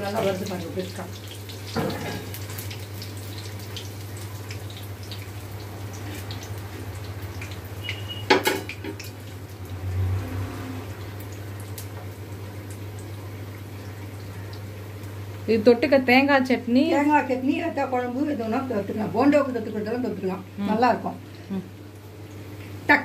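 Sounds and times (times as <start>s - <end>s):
oil sizzling with crackles: 0.0s - 23.0s.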